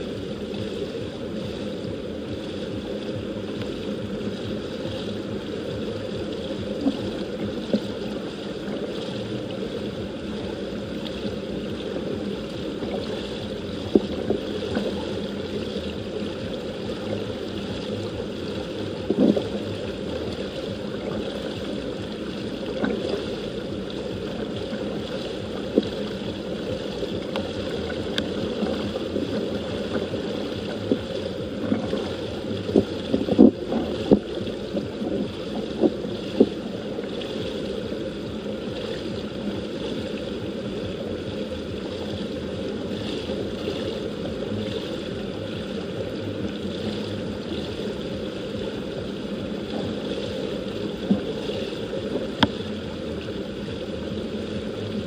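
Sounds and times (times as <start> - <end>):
water running: 0.0 - 55.0.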